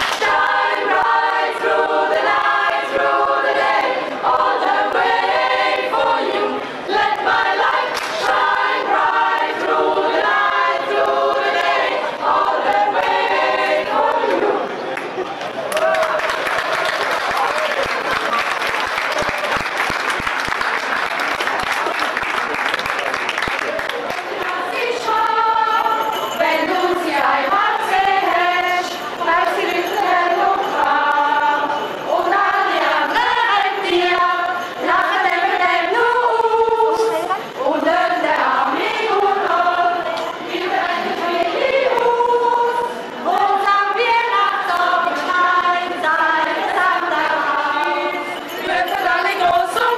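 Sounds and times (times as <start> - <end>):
choir singing: 0.0 - 14.9, 24.3 - 49.9.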